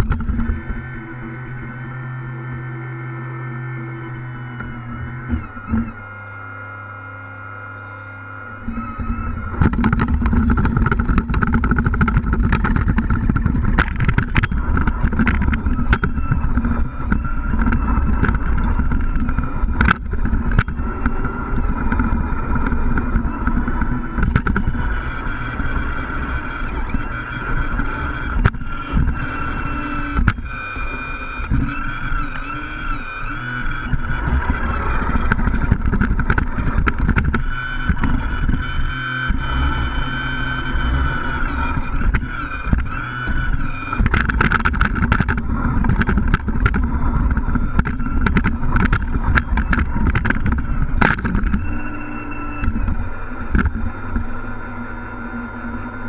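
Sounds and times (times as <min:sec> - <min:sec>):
rc trucks rumbling and whining: 0:00.0 - 0:56.0.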